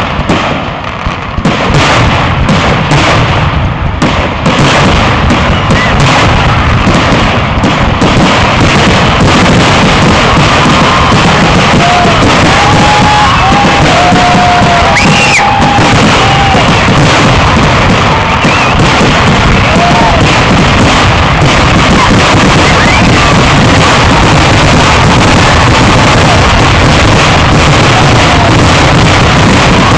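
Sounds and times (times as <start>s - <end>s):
fireworks barrage: 0.0s - 29.9s
firework whistles: 4.4s - 29.9s.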